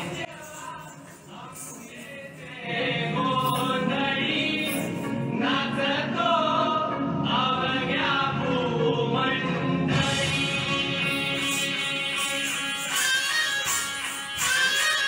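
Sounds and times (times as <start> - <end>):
person singing devotional song: 0.0 - 6.6, 7.3 - 15.0
musical accompaniment: 0.0 - 15.0.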